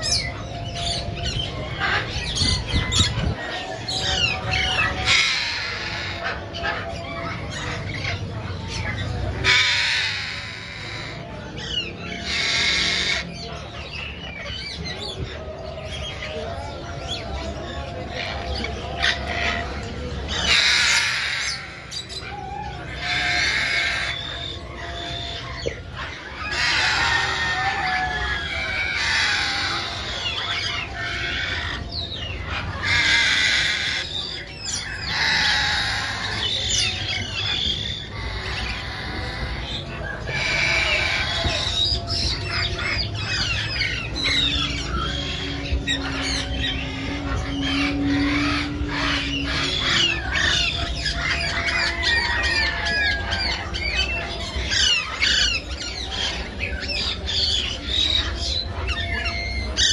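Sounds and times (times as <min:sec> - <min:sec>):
bird chatter: 0:00.0 - 0:59.9
parrots screeching: 0:00.0 - 0:59.9.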